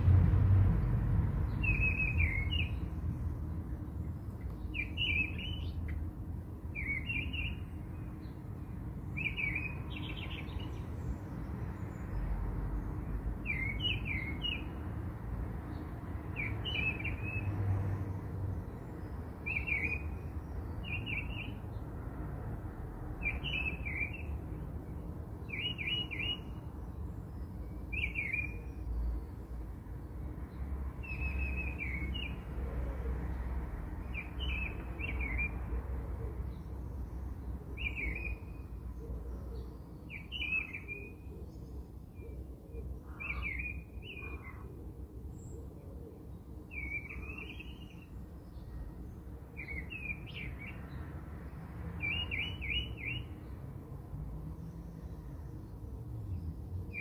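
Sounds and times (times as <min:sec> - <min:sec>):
small songbird chirping: 0:00.8 - 0:22.1, 0:23.0 - 0:32.7, 0:34.0 - 0:53.7, 0:54.4 - 0:57.0.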